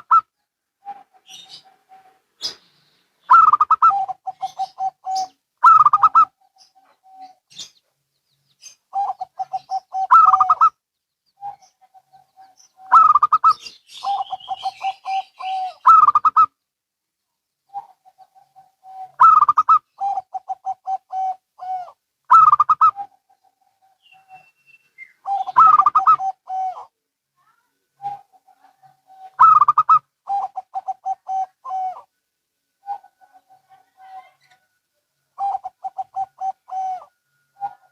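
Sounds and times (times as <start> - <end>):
doves cooing: 0.0 - 2.6, 3.3 - 7.8, 8.7 - 10.8, 11.4 - 16.6, 17.7 - 27.0, 28.0 - 32.1, 32.8 - 34.6, 35.4 - 37.9.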